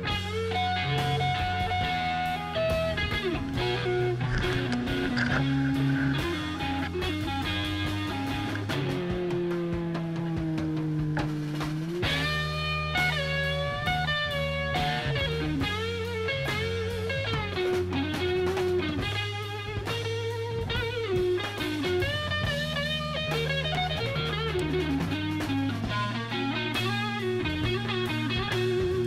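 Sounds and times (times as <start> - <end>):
bass and drums: 0.0 - 29.0
blues-rock electric guitar solo: 0.0 - 29.0.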